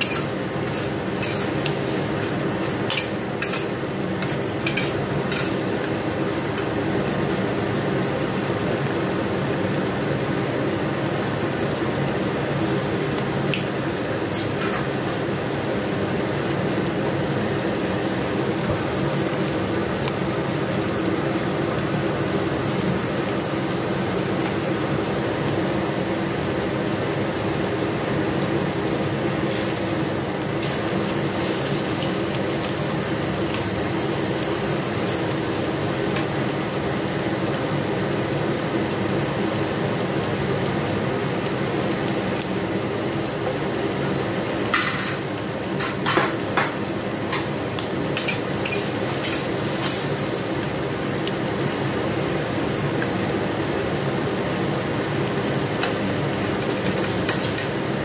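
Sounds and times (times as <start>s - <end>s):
vegetables sizzling in a wok: 0.0s - 58.0s.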